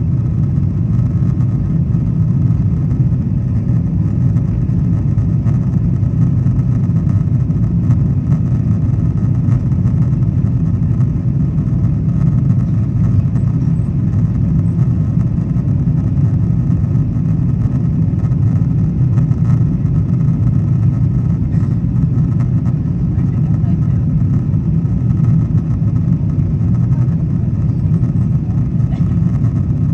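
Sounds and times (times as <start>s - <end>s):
jet engines and rushing air: 0.0s - 29.9s.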